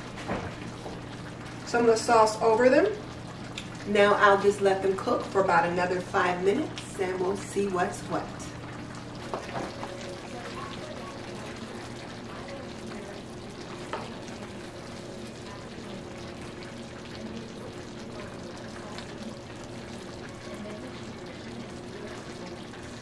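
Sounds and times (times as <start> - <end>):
sauce sizzling and bubbling in a pan: 0.0 - 23.0.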